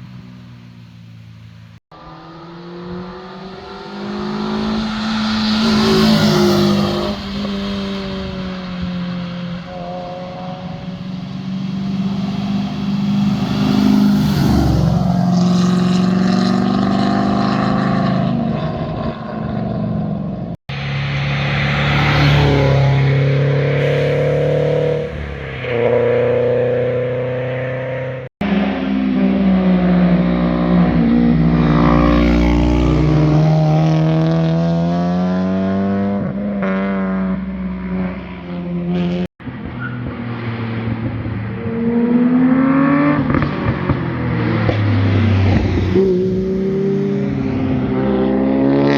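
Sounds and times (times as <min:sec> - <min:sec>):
cars accelerating past: 0:01.9 - 0:48.9.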